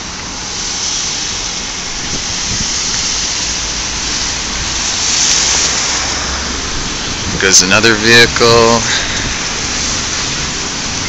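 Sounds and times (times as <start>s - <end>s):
low traffic rumble: 0.0s - 11.0s
tyres hissing on wet road: 0.0s - 11.0s
vehicle passing: 0.0s - 11.0s.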